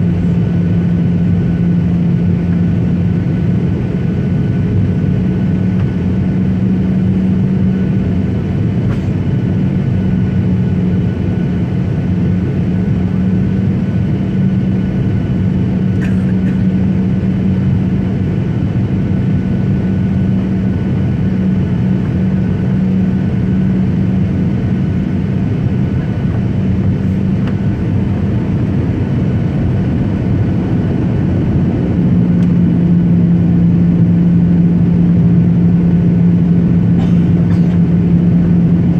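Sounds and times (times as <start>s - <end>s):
airliner engine drone and rushing air: 0.0s - 38.9s
constant cabin hum: 0.0s - 38.9s.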